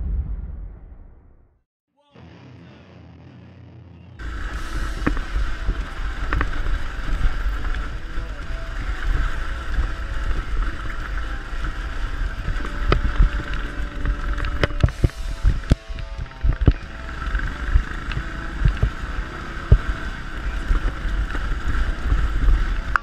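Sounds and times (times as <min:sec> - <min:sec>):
bike knocking on stones: 0:04.2 - 0:23.0
motorcycle engine running: 0:04.2 - 0:23.0
wind noise on microphone: 0:04.2 - 0:23.0.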